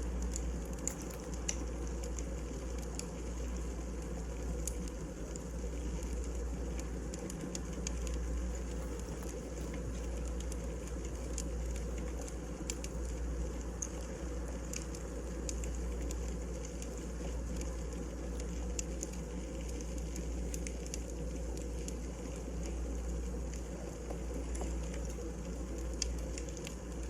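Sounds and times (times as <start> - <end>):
firewood crackling and popping: 0.0 - 27.0
wood fire burning: 0.0 - 27.0.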